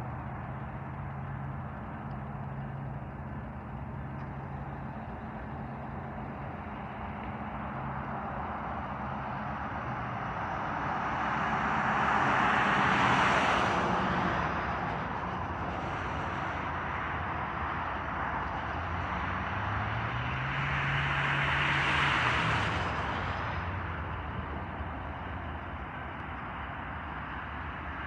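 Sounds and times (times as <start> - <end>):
low engine drone: 0.0 - 28.0
road vehicles passing: 0.0 - 28.0.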